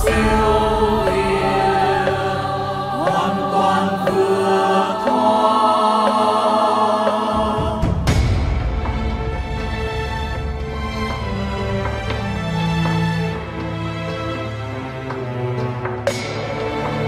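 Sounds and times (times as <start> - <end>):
group singing long slow notes: 0.0 - 13.7.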